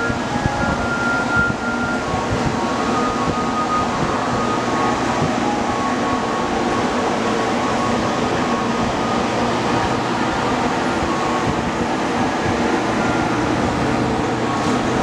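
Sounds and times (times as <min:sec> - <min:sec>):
faint high whine: 0:00.0 - 0:15.0
parked electric trains whirring: 0:00.0 - 0:15.0.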